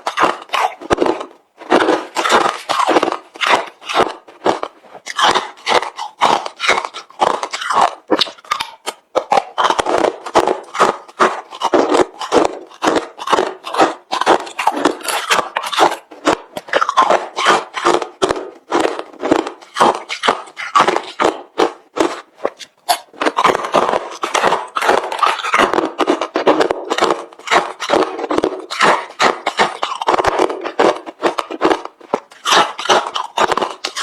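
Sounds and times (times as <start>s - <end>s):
crushed ice being chewed: 0.0s - 34.0s.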